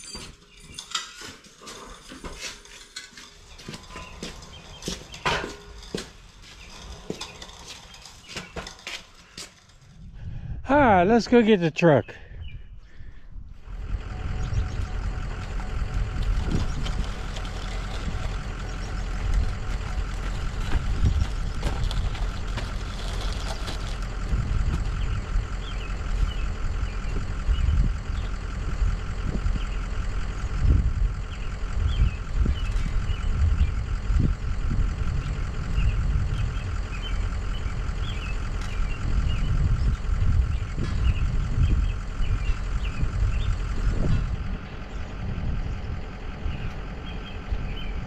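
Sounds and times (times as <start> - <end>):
road and wind noise: 0.0 - 48.0
truck engine drone: 0.0 - 48.0.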